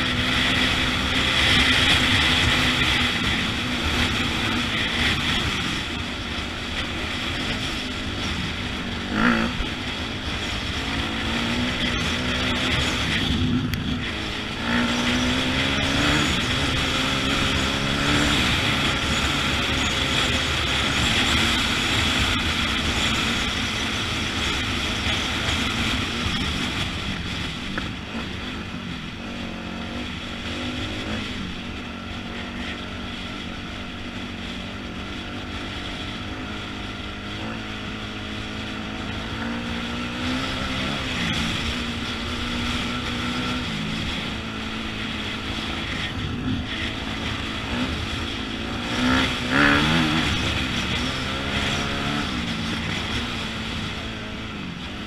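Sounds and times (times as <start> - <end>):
dirt bike engine revving: 0.0 - 28.6, 29.2 - 55.0.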